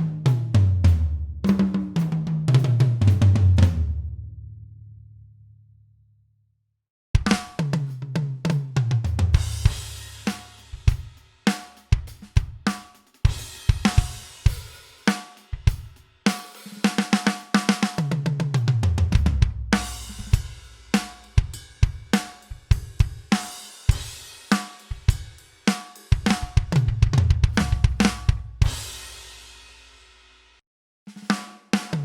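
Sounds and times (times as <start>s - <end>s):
drum kit groove: 0.0s - 3.9s, 7.2s - 30.4s, 31.1s - 32.0s.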